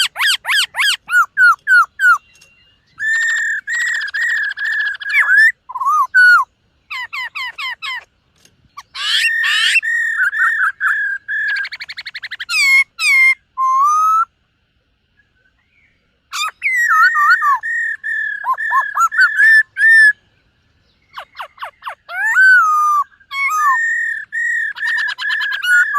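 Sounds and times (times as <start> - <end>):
bird singing whistled phrases: 0.0 - 8.1, 8.8 - 14.3, 15.2 - 20.2, 20.9 - 25.9
bird rapid trill: 0.0 - 14.3, 16.3 - 20.2, 20.9 - 25.9.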